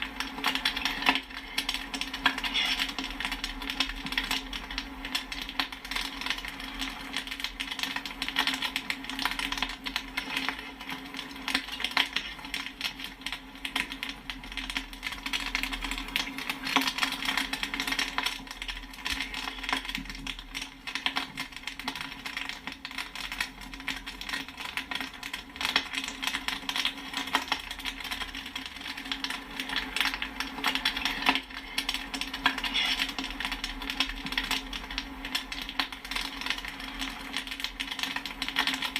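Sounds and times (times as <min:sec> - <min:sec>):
popcorn popping: 0:00.0 - 0:38.9.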